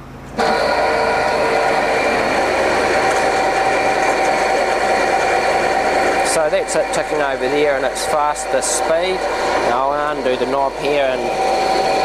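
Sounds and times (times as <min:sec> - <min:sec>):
bandsaw humming and whining: 0:00.4 - 0:12.0.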